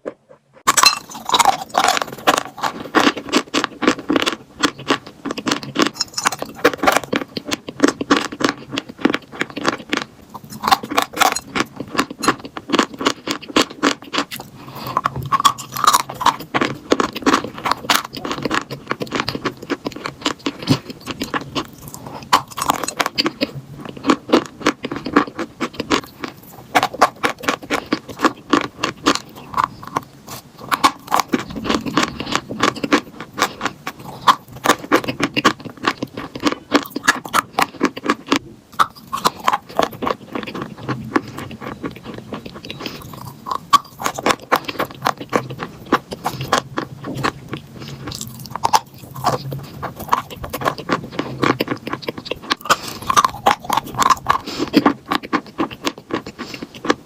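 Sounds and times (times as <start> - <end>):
chalk being bitten and chewed: 0.0 - 57.0.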